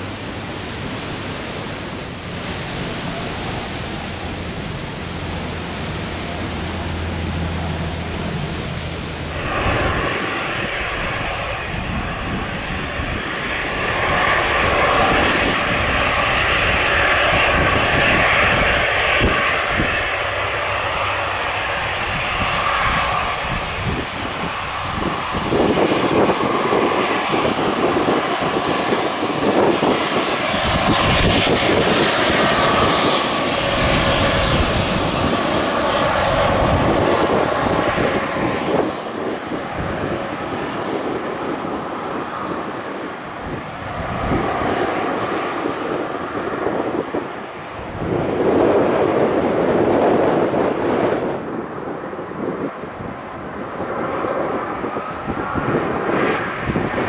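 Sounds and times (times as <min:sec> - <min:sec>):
aircraft engine: 0:00.0 - 0:57.0
wind buffeting microphone: 0:00.0 - 0:57.0.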